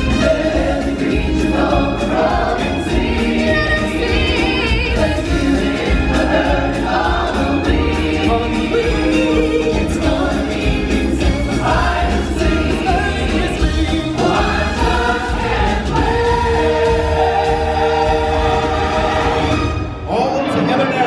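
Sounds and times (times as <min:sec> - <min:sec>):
musical backing with percussion: 0:00.0 - 0:20.8
choir singing: 0:00.0 - 0:21.0.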